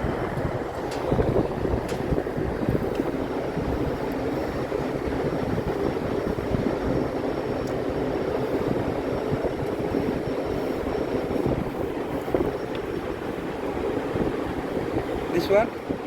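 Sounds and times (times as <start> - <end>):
air conditioning unit running: 0.0 - 16.0.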